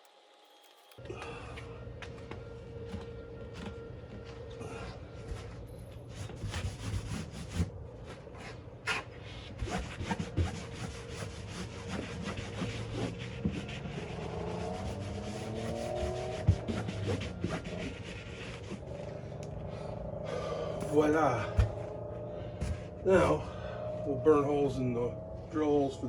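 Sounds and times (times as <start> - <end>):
rising whine: 0.0 - 6.4, 7.7 - 26.0
steady low hum: 1.0 - 26.0.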